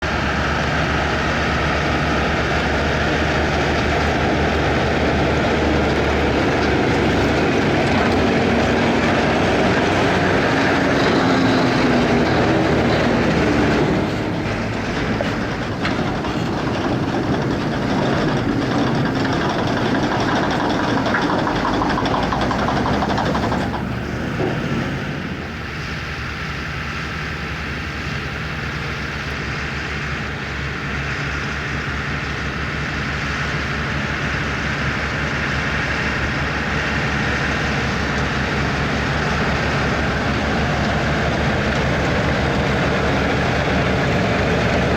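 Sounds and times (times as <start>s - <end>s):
potato harvester clatter: 0.0s - 44.9s
tractor engines running: 0.0s - 44.9s.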